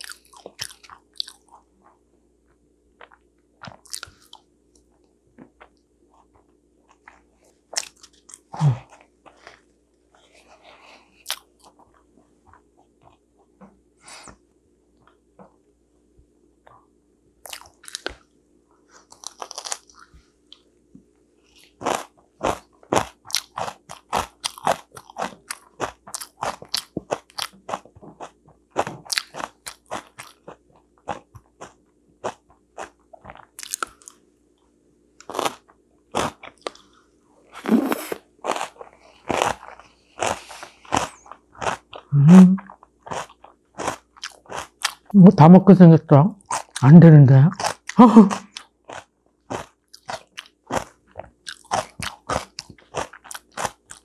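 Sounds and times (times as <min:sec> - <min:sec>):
crunchy chewing of cabbage: 0:00.0 - 0:02.0, 0:03.0 - 0:13.5, 0:17.4 - 0:18.2, 0:18.9 - 0:20.7, 0:21.4 - 0:34.2, 0:35.2 - 0:42.1, 0:42.7 - 0:45.1, 0:46.4 - 0:46.8, 0:47.5 - 0:54.0.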